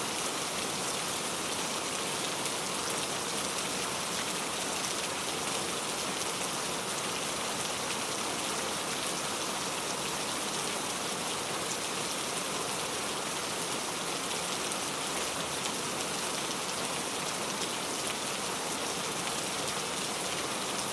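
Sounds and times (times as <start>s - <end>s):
steady rain hiss: 0.0s - 20.9s.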